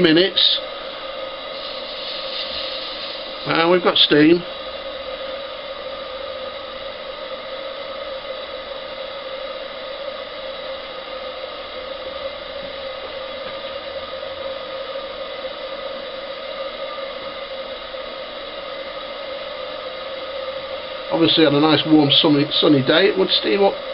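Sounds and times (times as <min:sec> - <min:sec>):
gas burner flame humming: 0:00.0 - 0:23.9.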